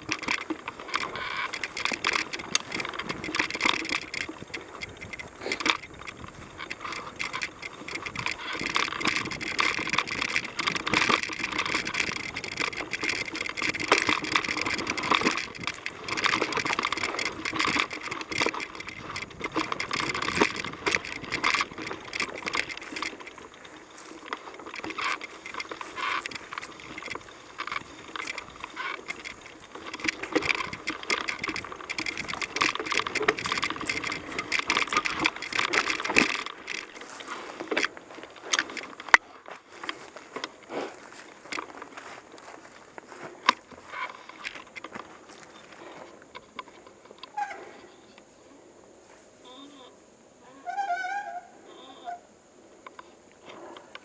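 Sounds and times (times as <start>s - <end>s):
bike tyres rolling on dirt: 0.0s - 49.4s
bike clicks and rattles: 0.0s - 49.7s, 50.6s - 54.0s.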